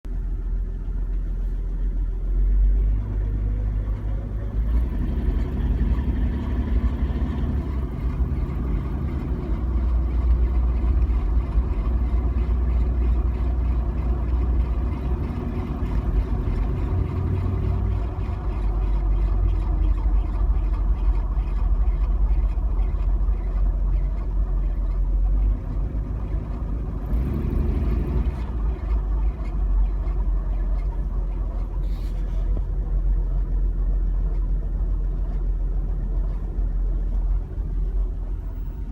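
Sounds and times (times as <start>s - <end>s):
car engine accelerating: 0.1s - 38.9s.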